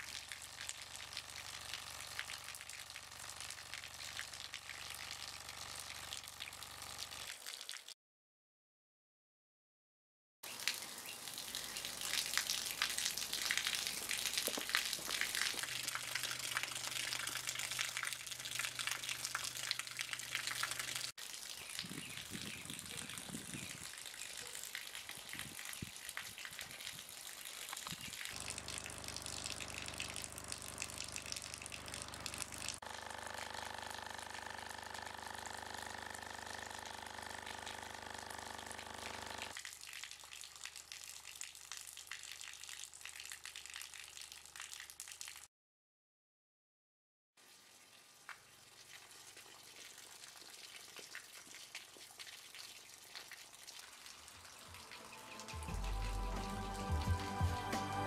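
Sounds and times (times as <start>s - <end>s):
water gushing: 0.0s - 7.9s, 10.5s - 42.3s, 47.4s - 57.2s.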